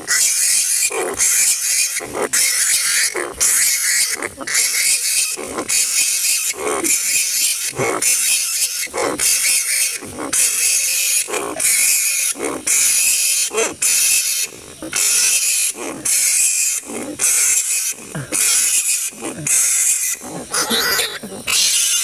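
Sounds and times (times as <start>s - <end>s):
fruit bats screeching: 0.0s - 22.0s.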